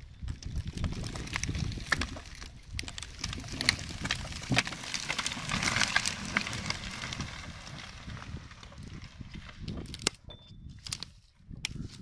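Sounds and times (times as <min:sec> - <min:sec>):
dry branches snapping and crackling: 0:00.0 - 0:12.0.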